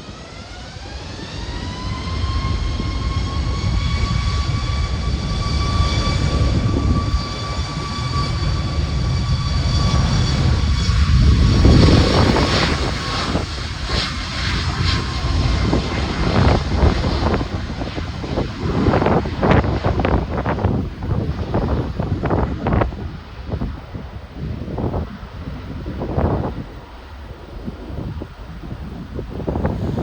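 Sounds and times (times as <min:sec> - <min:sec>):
jet airliner passing: 0:00.0 - 0:30.0
wind on microphone: 0:01.1 - 0:30.0.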